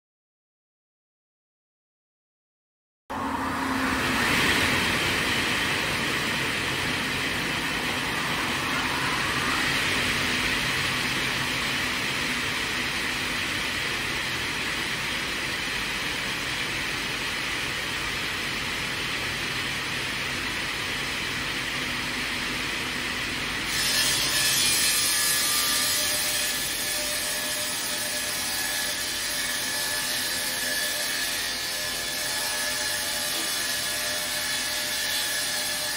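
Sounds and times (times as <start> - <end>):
high saw whine: 3.1 - 20.4, 23.0 - 35.9.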